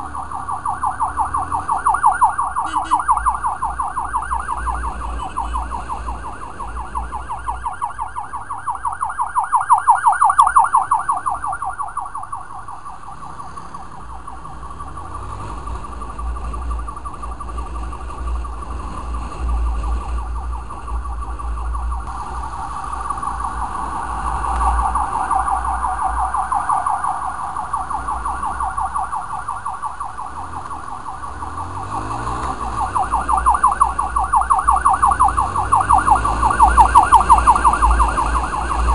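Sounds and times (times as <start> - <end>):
low road rumble: 0.0 - 38.9
siren warbling yelp: 0.0 - 38.9.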